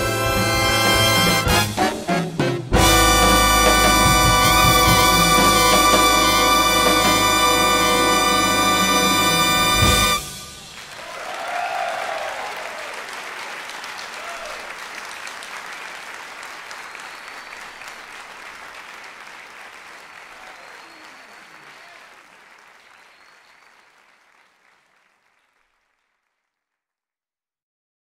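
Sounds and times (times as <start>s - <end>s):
audience applauding: 2.8s - 26.6s.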